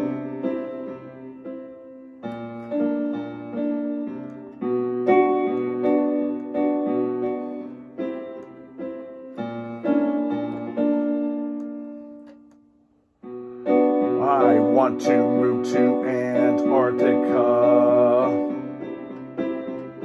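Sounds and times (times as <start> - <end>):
electronic keyboard piano chords: 0.0 - 20.0.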